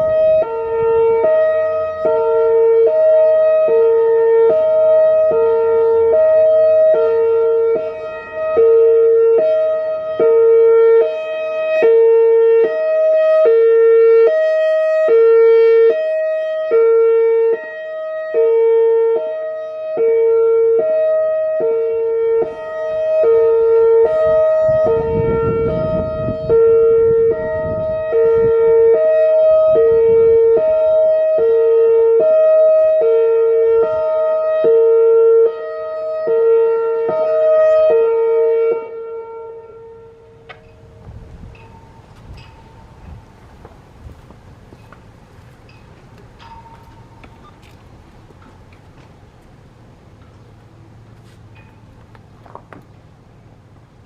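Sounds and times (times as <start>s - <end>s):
hi-lo warning siren: 0.0s - 54.0s.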